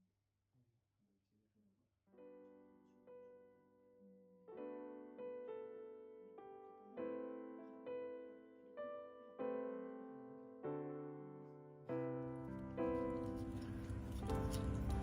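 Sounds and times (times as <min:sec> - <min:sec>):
slow piano chords: 0:02.2 - 0:15.0.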